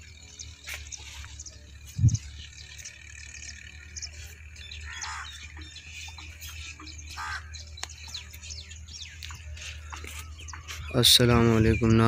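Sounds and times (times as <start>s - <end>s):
birds chirping and calling: 0.0s - 12.0s
steady low hum: 0.0s - 12.0s.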